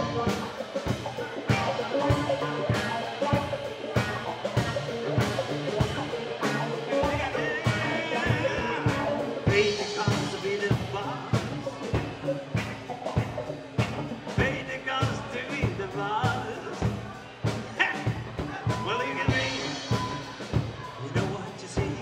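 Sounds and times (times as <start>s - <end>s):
man singing: 0.0s - 13.3s, 14.3s - 22.0s
live rock band playing: 0.0s - 22.0s.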